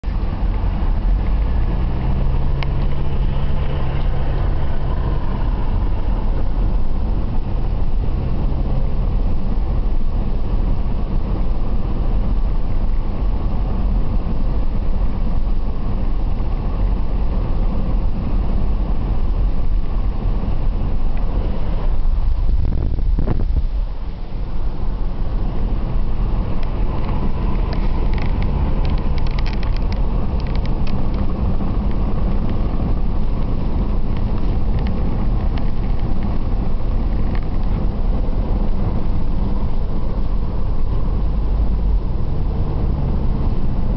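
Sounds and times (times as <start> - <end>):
car cabin rumble: 0.0 - 43.9
low engine note: 0.0 - 43.9.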